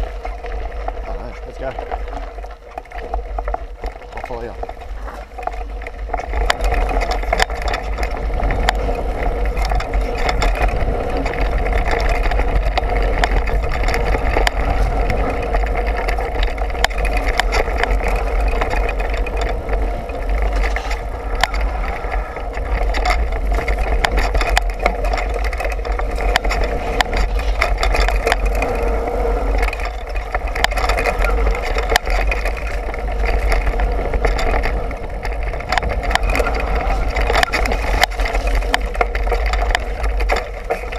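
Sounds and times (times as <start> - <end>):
bike rattling and clicking: 0.0 - 40.9
tyre noise on dirt: 0.0 - 40.9
wind rumbling over microphone: 0.0 - 40.9.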